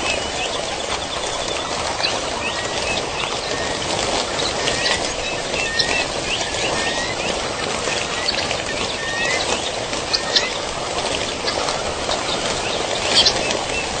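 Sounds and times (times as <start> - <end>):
bird chirps: 0.0 - 10.6, 11.4 - 14.0
birds whistling: 0.0 - 10.7, 11.3 - 14.0.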